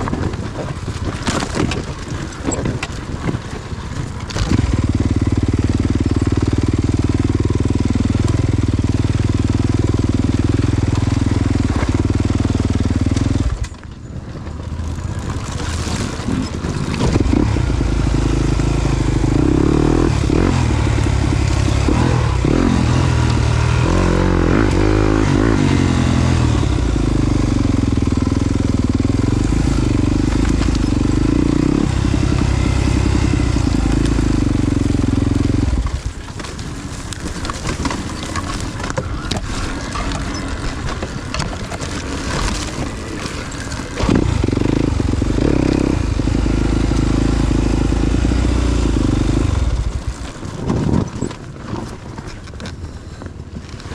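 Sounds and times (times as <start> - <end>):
dirt bike engine under load: 0.0 - 53.9.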